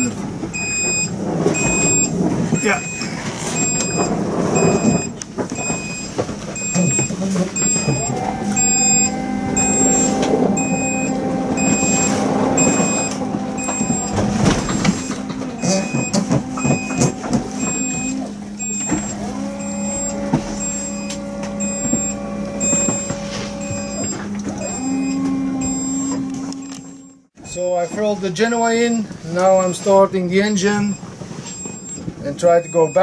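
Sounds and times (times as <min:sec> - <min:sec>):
electronic alarm beeps: 0:00.0 - 0:30.0, 0:30.6 - 0:33.0.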